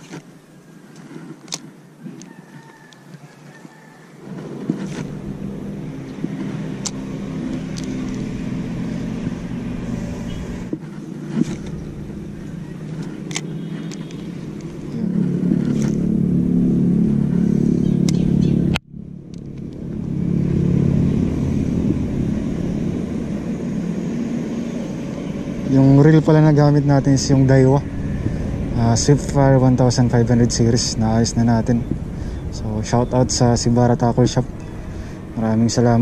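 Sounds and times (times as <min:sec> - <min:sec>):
motor running: 0:04.2 - 0:36.0.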